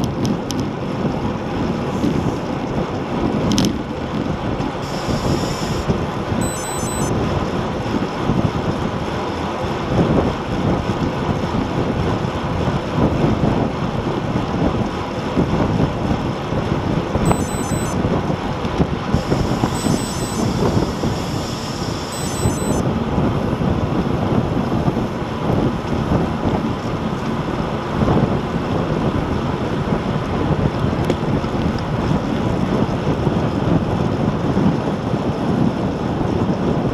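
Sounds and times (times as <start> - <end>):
wind buffeting microphone: 0.0 - 6.4, 7.1 - 22.1, 22.8 - 36.9.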